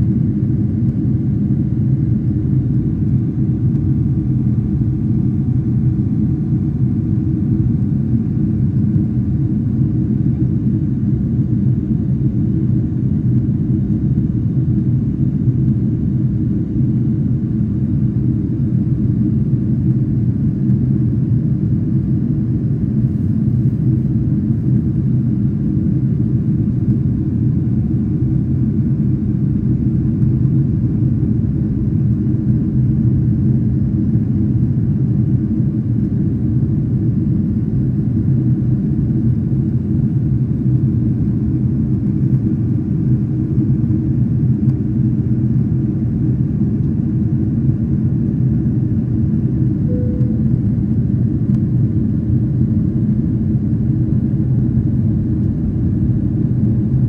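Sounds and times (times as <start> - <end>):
faint steady hum: 0.0 - 57.0
jet cabin rumble: 0.0 - 57.0.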